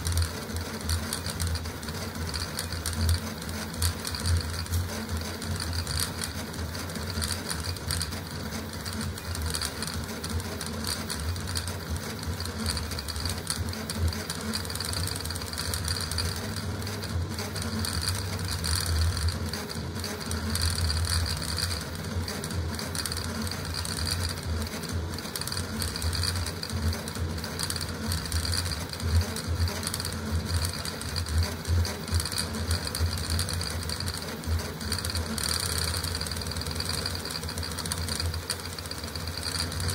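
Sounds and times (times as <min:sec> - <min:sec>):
stepper motors buzzing and whirring: 0:00.0 - 0:39.9.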